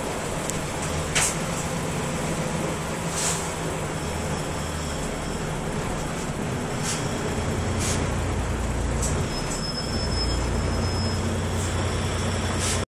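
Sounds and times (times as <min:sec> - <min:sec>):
bus diesel engine drone: 0:00.0 - 0:12.9.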